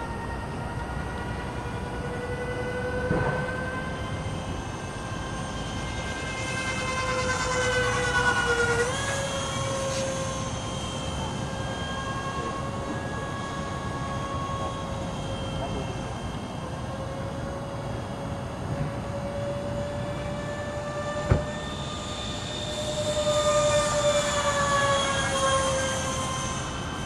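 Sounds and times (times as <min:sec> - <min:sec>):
model jet fan whine: 0:00.0 - 0:27.0.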